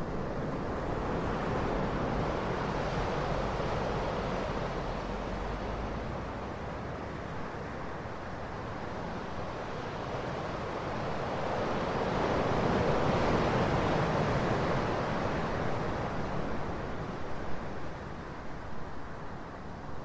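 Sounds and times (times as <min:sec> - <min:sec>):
ocean waves washing: 0:00.0 - 0:19.9.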